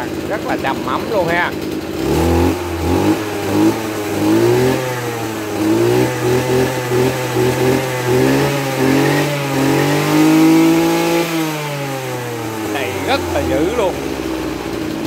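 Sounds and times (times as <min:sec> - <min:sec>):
brush cutter engine revving: 0:00.0 - 0:15.0.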